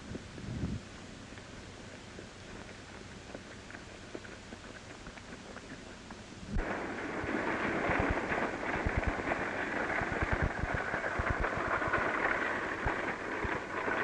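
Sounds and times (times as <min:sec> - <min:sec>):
horse hoofbeats: 0:01.2 - 0:14.0
wheels and harness rattling: 0:01.2 - 0:14.0.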